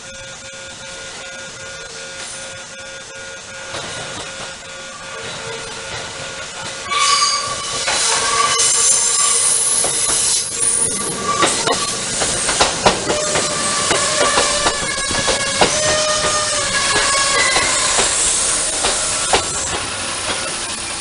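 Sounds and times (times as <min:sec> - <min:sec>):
train wheels squealing: 0:00.4 - 0:21.0
wheels clacking over rail joints: 0:03.7 - 0:21.0.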